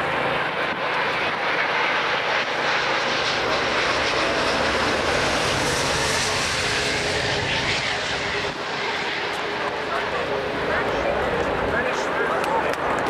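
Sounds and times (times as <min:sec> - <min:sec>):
jet airliner flying past: 0:00.0 - 0:13.0.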